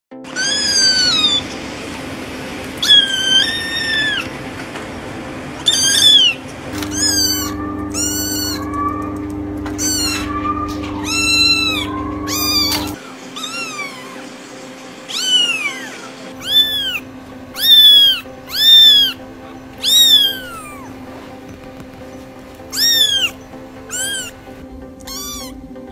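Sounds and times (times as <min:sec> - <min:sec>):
kittens meowing: 0:00.3 - 0:01.6, 0:02.8 - 0:04.4, 0:05.6 - 0:25.8.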